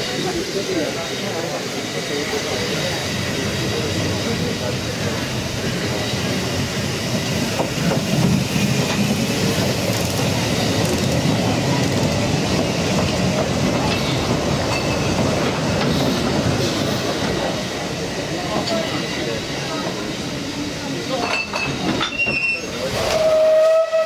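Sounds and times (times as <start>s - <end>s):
steam locomotive passing: 0.0s - 24.0s.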